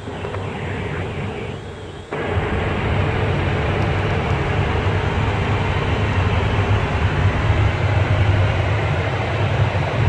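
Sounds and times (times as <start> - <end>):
even rushing air noise: 0.0 - 10.0
low cabin hum: 0.0 - 10.0.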